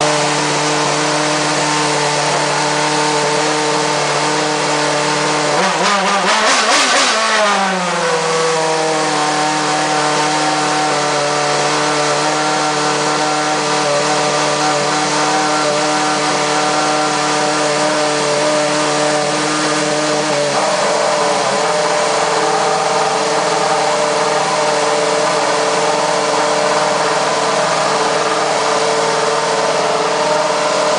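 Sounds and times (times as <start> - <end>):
racing car engine idling and revving: 0.0 - 30.9.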